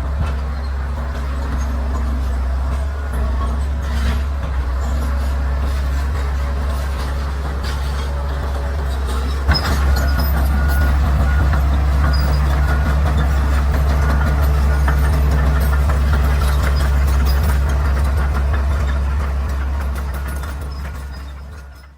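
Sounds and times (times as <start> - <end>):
bulldozer diesel engine running: 0.0 - 21.9.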